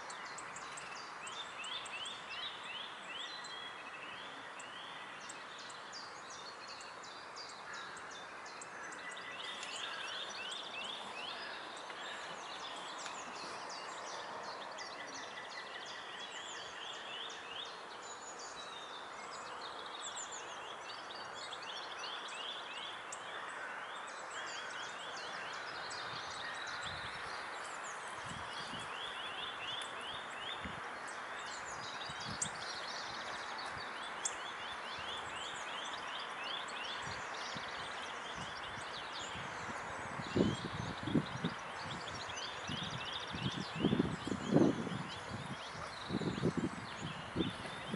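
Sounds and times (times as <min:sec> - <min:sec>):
small birds singing: 0:00.0 - 0:47.9.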